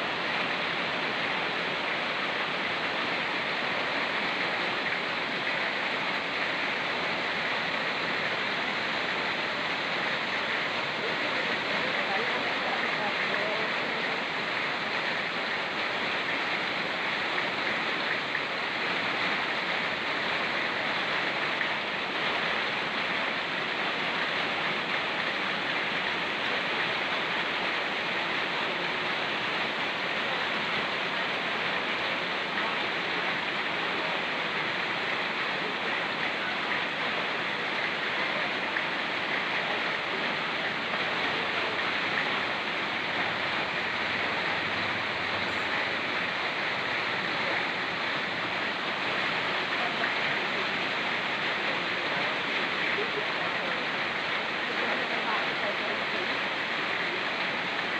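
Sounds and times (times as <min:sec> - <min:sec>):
fast-flowing stream rushing: 0:00.0 - 0:57.9
rain falling: 0:00.0 - 0:57.9.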